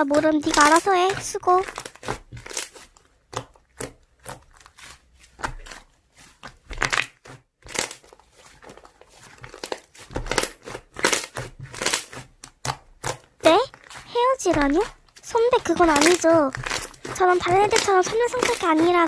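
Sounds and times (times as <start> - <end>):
slime squished by hand: 0.0 - 19.0.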